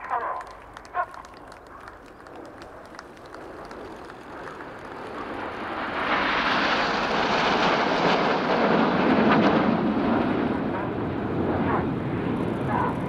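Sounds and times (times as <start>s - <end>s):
jet aircraft flying past: 0.0s - 13.0s.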